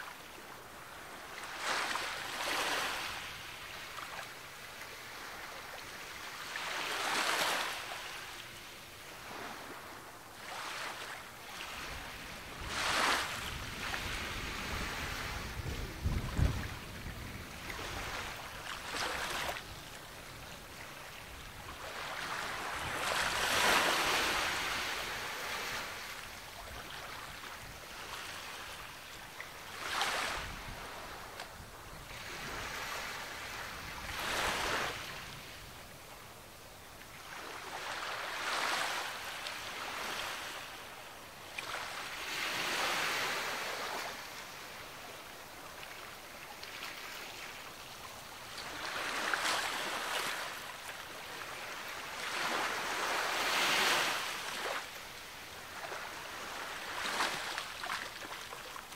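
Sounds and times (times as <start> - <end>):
waves breaking on a beach: 0.0 - 58.9.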